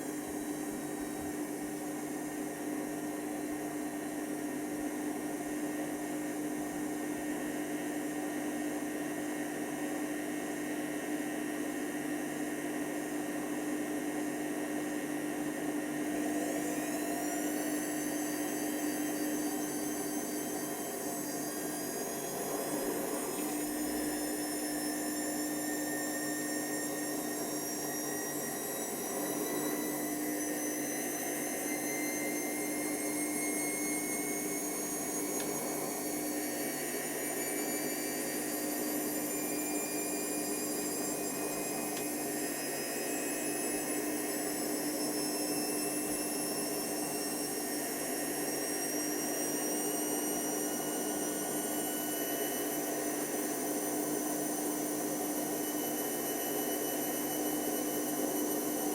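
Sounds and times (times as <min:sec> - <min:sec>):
washer dryer motor humming: 0:00.0 - 0:13.1, 0:14.4 - 0:58.9.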